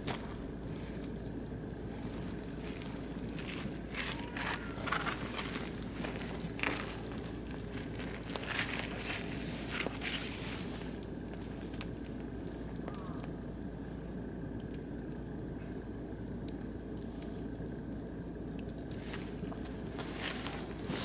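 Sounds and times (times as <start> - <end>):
wood fire crackling in grill: 0.0 - 21.0.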